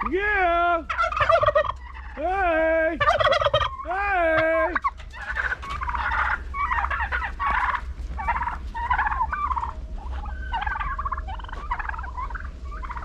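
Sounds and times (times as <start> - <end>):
steady low rumble: 0.0 - 13.0
turkeys gobbling: 0.0 - 13.0.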